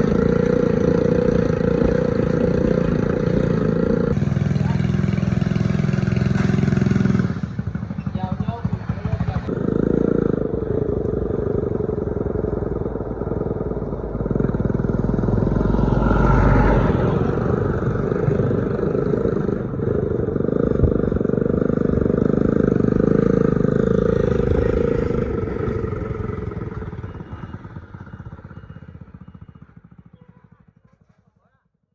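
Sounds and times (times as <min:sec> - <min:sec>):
truck engine pulsing: 0:00.0 - 0:30.0.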